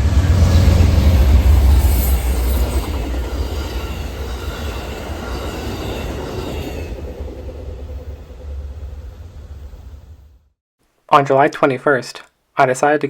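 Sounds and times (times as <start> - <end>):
train rumbling on rails: 0.0 - 10.5.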